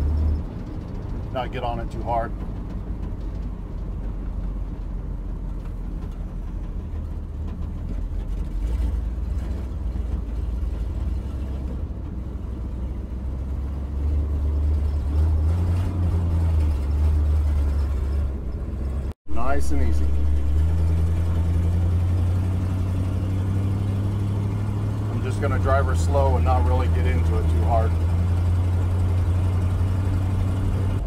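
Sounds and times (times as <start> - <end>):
truck engine low drone: 0.0 - 31.0.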